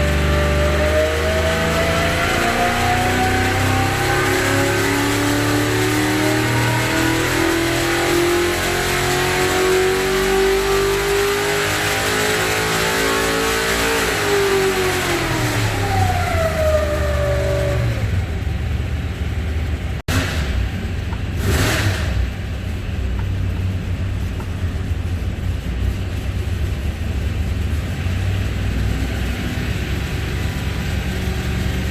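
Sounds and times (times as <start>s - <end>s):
race car engine revving: 0.0s - 31.9s.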